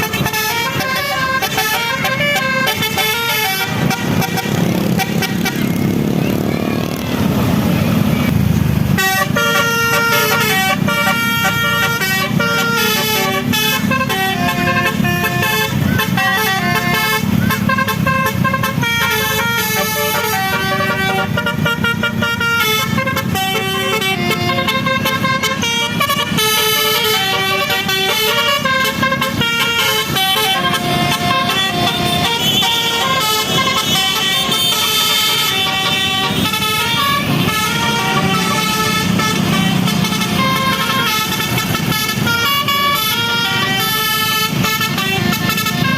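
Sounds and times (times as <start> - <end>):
multi-tone bus horn melody: 0.0 - 7.1, 8.8 - 45.9.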